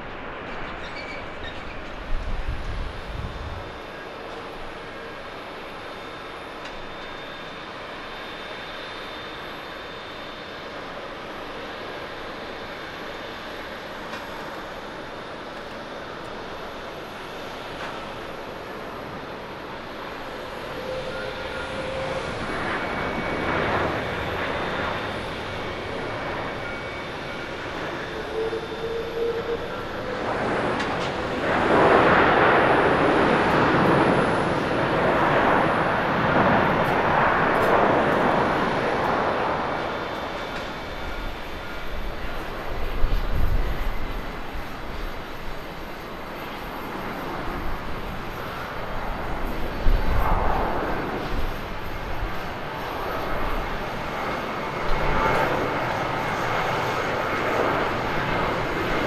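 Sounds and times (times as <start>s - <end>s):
jet airliner engines roaring: 0.0s - 59.0s.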